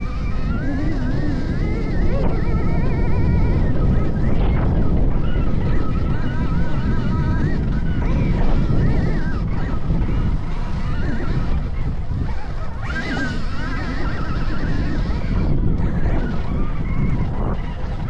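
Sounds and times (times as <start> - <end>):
electric motorbike motor whining: 0.0 - 18.0
wind rumbling on microphone: 0.0 - 18.0.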